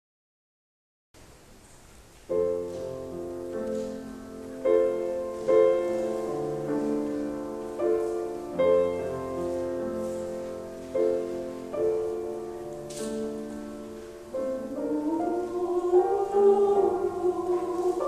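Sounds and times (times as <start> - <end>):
grand piano chords: 1.2 - 18.0.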